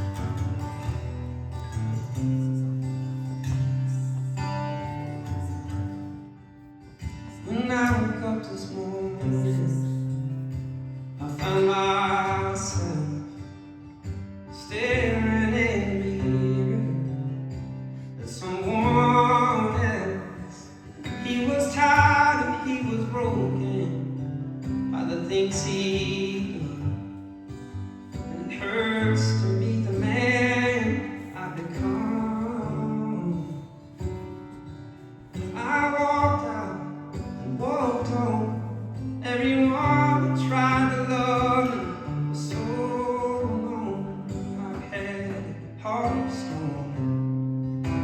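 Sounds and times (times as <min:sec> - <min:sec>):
acoustic guitar playing: 0:00.0 - 0:48.0.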